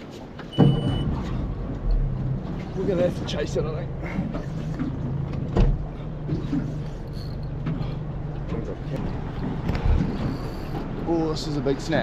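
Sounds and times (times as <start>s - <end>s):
outboard motor idling: 0.7s - 12.0s.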